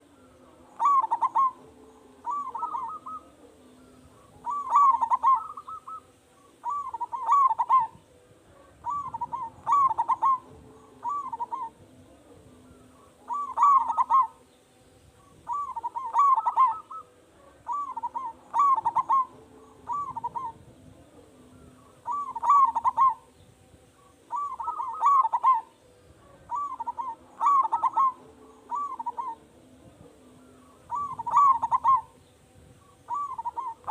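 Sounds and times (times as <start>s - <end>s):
dove cooing: 0.0s - 14.5s, 15.2s - 32.2s, 32.8s - 33.9s.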